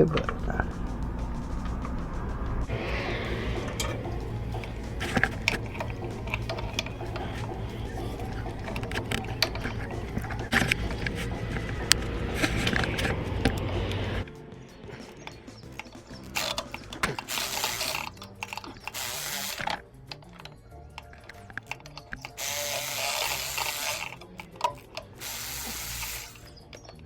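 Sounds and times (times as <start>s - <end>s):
ratchet wrench clicking rapidly: 3.5s - 14.3s, 15.2s - 27.0s.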